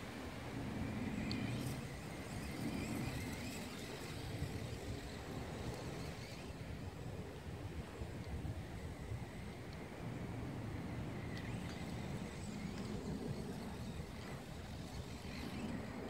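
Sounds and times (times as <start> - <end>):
electric motor whine: 0.0 - 16.0
wind on microphone: 0.0 - 16.0.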